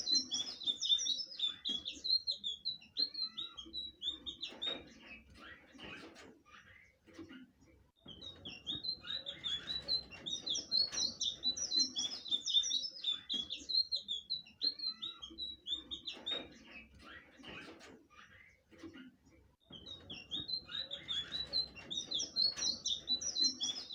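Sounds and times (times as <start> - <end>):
bird twittering song: 0.0 - 7.0, 8.0 - 18.8, 19.6 - 23.9.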